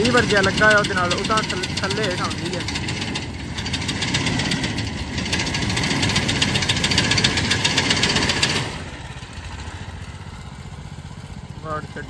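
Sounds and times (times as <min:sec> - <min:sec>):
reaper engine and cutter clatter: 0:00.0 - 0:10.5.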